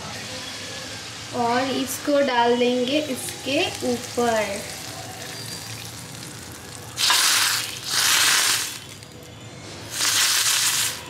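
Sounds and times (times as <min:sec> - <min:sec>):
hot oil sizzling: 0:00.1 - 0:11.0.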